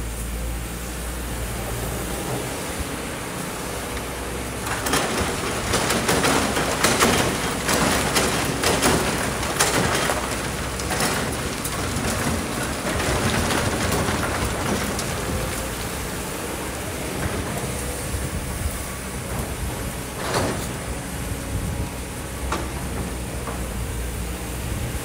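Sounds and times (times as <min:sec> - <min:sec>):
excavator diesel engine: 0:00.0 - 0:25.0
sand and stones pouring into truck: 0:03.9 - 0:24.2.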